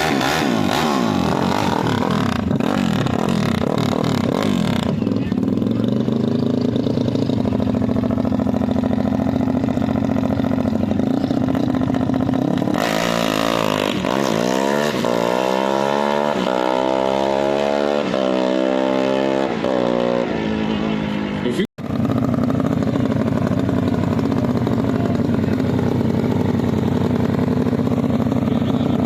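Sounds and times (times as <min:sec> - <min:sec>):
motorcycle engine revving and accelerating: 0:00.0 - 0:29.0.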